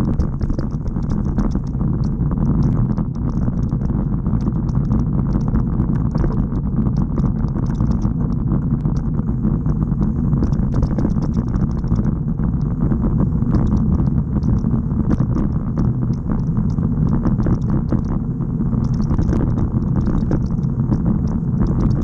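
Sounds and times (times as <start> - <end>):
bike tyres rolling on rough asphalt: 0.0 - 22.0
small ticks and rattles: 0.0 - 22.0.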